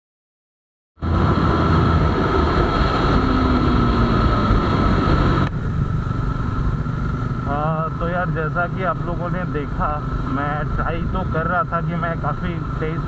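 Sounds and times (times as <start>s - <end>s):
motorcycle engine running hard: 1.0s - 13.0s.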